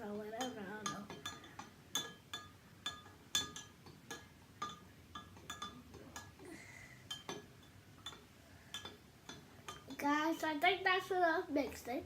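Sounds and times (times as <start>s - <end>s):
utensil clinking against a bowl: 0.0s - 10.4s.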